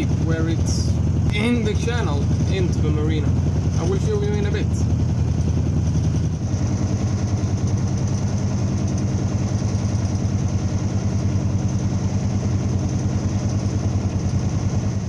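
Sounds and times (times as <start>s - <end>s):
diesel boat engine running: 0.0s - 15.0s.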